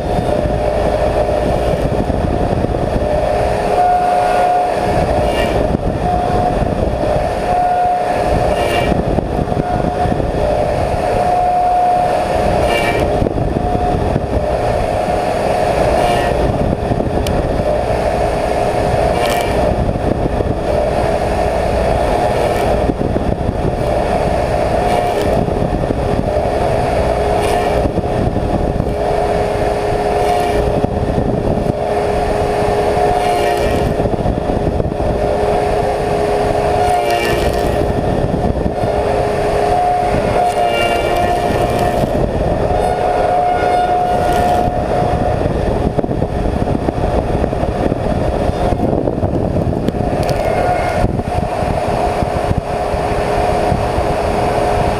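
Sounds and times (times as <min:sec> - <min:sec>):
surfacing machine whining: 0:00.0 - 0:54.9.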